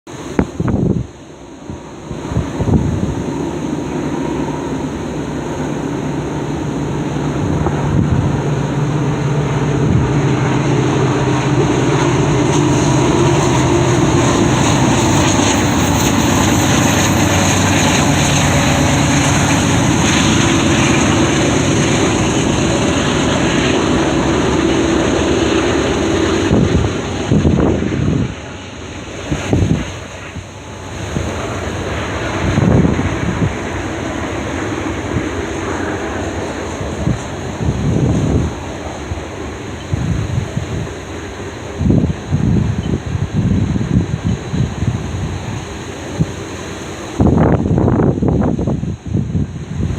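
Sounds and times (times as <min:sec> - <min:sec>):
high whine: 0:00.1 - 0:49.9
locomotive engine hum: 0:00.1 - 0:49.9
wind buffeting microphone: 0:00.1 - 0:49.9.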